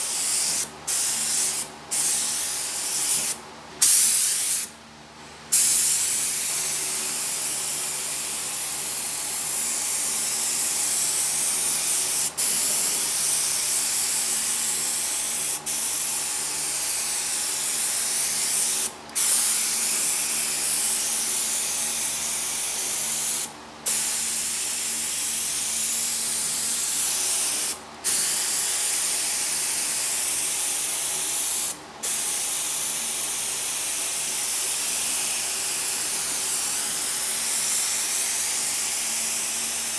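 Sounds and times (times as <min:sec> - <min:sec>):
spray gun hissing: 0:00.0 - 0:04.7, 0:05.5 - 0:39.9.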